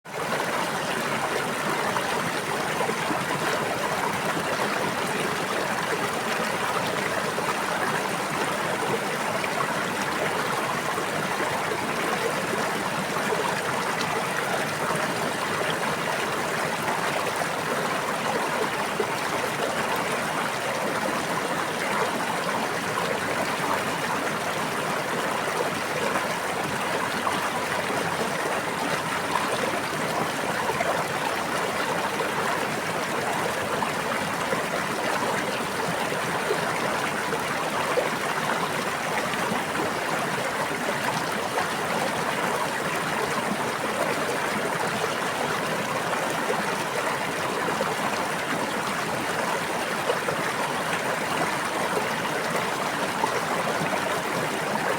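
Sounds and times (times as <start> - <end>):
stream of water running: 0.1 - 54.9.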